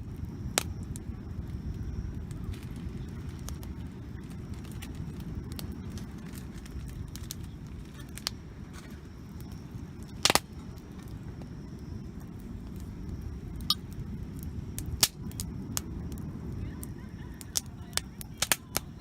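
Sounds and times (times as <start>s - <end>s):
campfire crackling and popping: 0.0s - 19.0s
steady low rumble: 0.0s - 19.0s.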